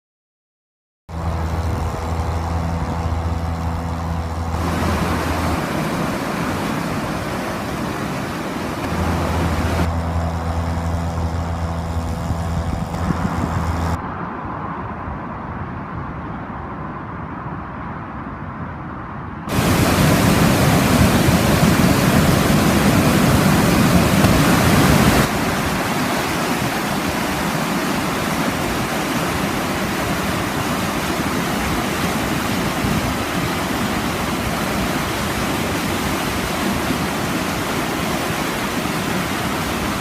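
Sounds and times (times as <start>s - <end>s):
boat engine humming: 1.1s - 14.0s, 19.5s - 40.0s
steady rushing noise: 1.1s - 40.0s.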